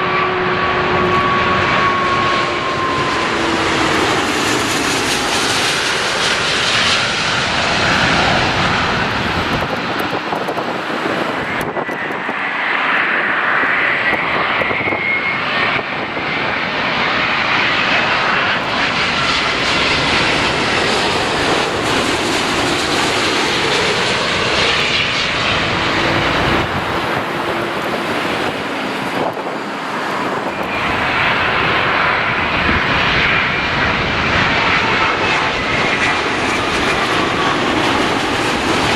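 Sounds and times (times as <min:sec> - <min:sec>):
high engine whine: 0:00.0 - 0:38.9
jet engines roaring: 0:00.0 - 0:38.9.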